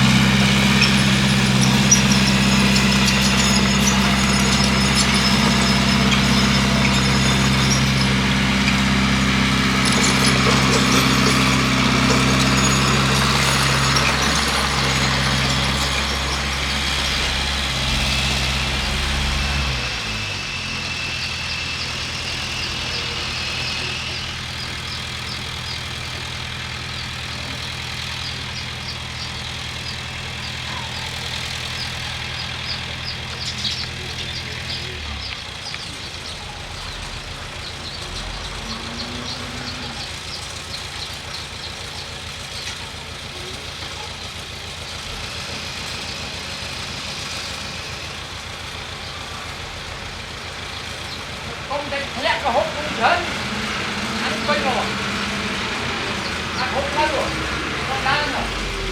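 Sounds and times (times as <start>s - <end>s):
bulldozer diesel engine: 0.0s - 58.9s.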